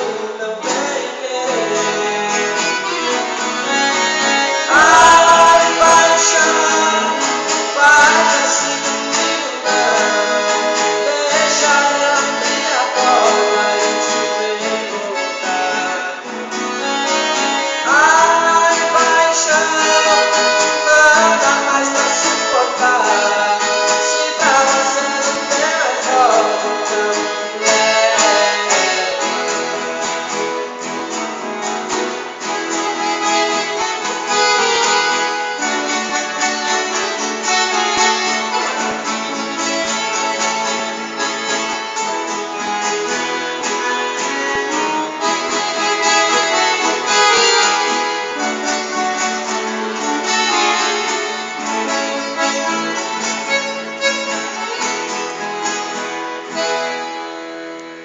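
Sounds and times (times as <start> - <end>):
accordion melody: 0.0 - 58.0
strummed acoustic guitar: 0.0 - 58.0.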